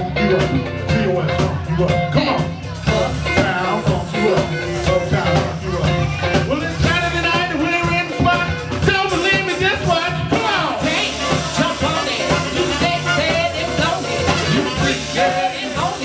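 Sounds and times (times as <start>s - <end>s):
people singing: 0.0s - 8.3s, 9.2s - 16.0s
drums: 0.0s - 16.0s
electric guitar: 0.0s - 16.0s
keyboards: 0.0s - 16.0s.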